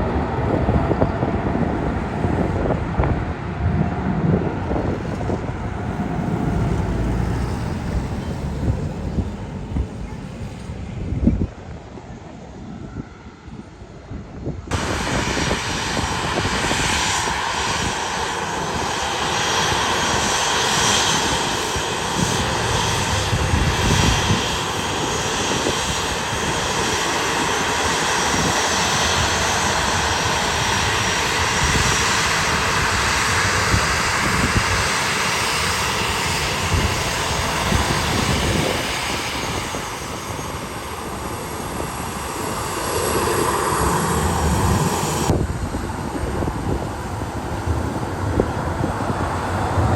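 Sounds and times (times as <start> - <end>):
airliner engines running: 0.0 - 49.9.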